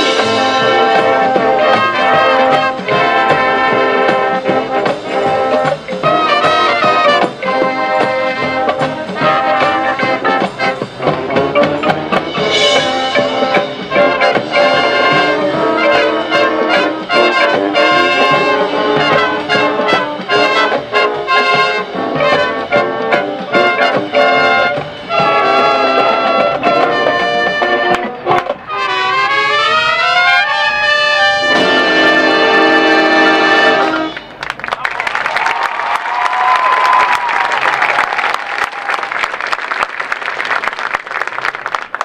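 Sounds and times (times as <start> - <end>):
brass section playing chords: 0.0 - 34.4.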